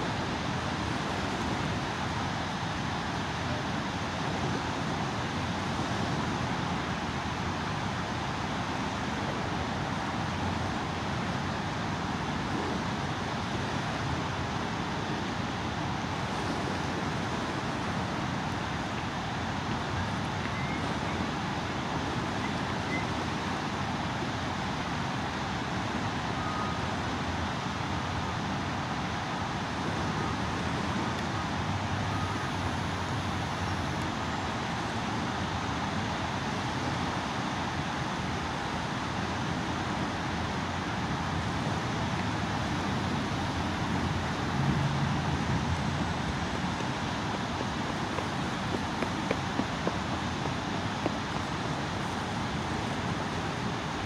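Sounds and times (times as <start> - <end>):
outdoor rumble and hiss: 0.0 - 54.0.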